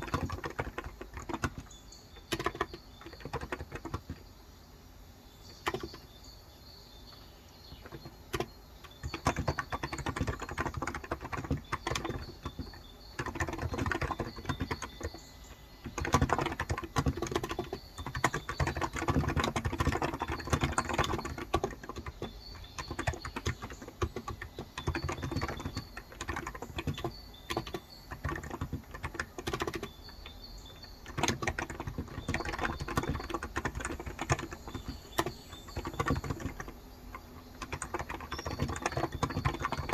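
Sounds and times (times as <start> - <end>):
keyboard typing clicks: 0.0 - 4.3, 5.5 - 6.1, 7.1 - 39.9
birds chirping faintly: 0.0 - 39.9.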